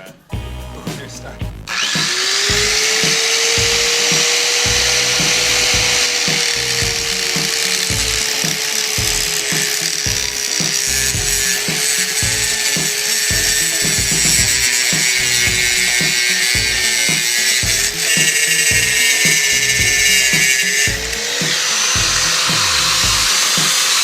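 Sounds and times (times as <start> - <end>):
angle grinder cutting metal: 1.7 - 24.0.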